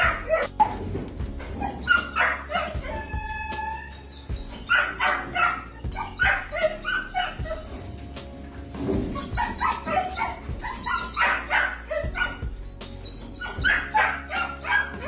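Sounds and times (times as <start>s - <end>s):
faint background music: 0.0s - 15.0s
puppies yipping and whimpering: 0.0s - 15.0s.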